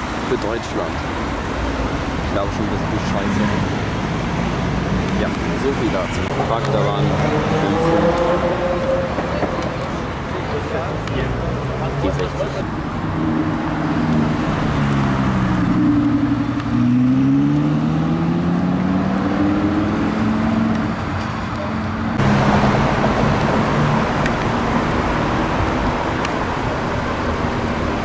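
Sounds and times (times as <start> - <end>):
traffic noise: 0.0 - 28.0
car engine accelerating: 2.4 - 10.0, 11.1 - 28.0.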